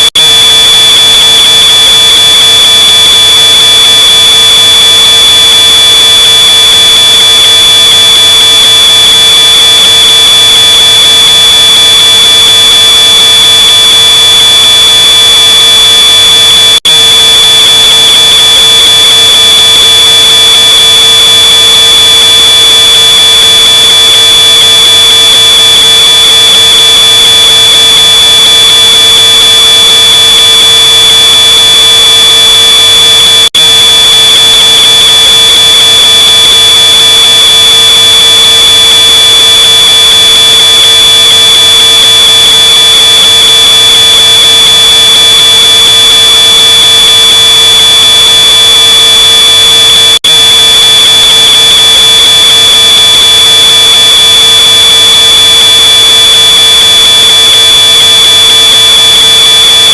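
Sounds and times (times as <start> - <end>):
smoke alarm tone: 0.0 - 59.9.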